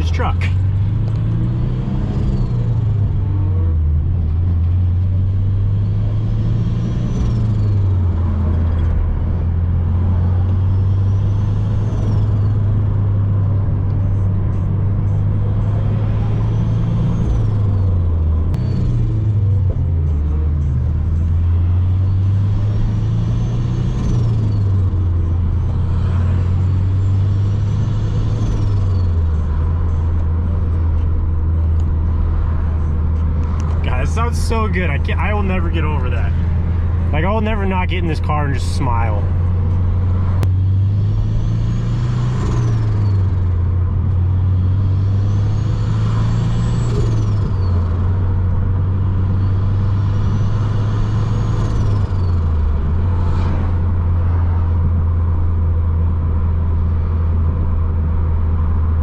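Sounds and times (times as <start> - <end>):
car engine revving through gears: 0.6 - 34.0, 39.3 - 55.5.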